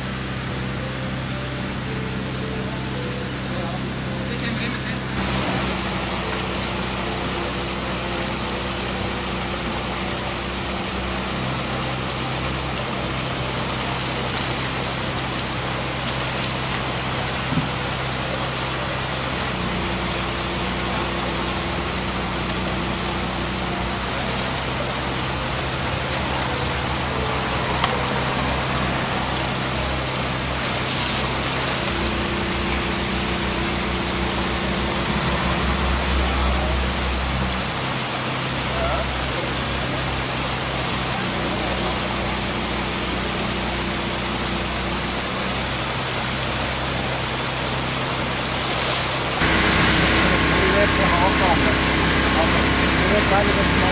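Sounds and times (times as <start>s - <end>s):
generator engine humming: 0.0s - 53.9s
shallow stream water rushing: 0.0s - 53.9s.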